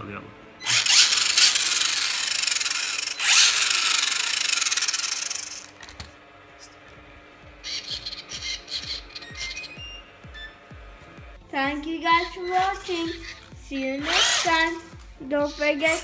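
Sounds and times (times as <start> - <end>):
electric motor whine: 0.6 - 16.0.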